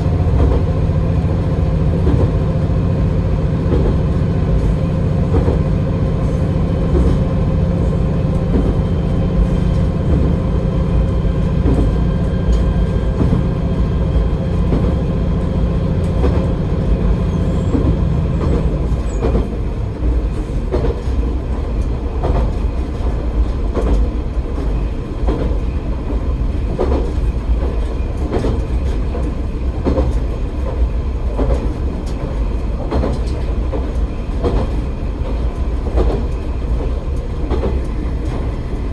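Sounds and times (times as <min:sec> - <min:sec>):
diesel railcar engine hum: 0:00.0 - 0:38.9
wheels clicking over rail joints: 0:00.0 - 0:38.9.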